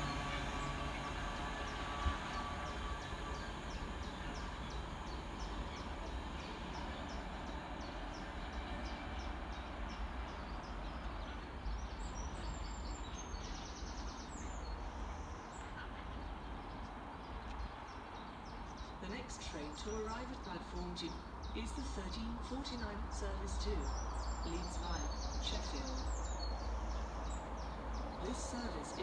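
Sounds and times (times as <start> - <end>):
birds chirping: 0.0 - 29.0
train low rumble: 0.0 - 29.0.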